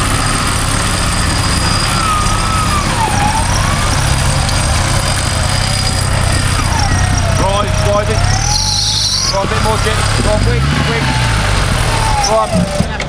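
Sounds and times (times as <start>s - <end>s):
off-road vehicle engine rumbling: 0.0s - 13.0s.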